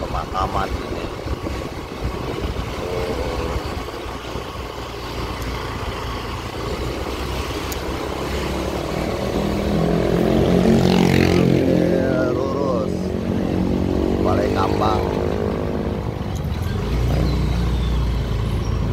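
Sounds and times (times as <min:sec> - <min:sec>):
motorcycle engine: 0:00.0 - 0:18.9
street traffic rumble: 0:00.0 - 0:18.9.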